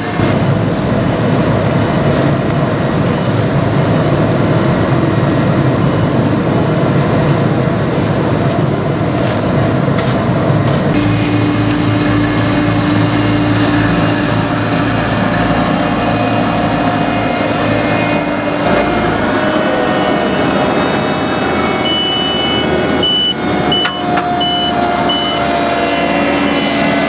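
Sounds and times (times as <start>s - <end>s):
diesel paving machinery droning: 0.0s - 27.0s.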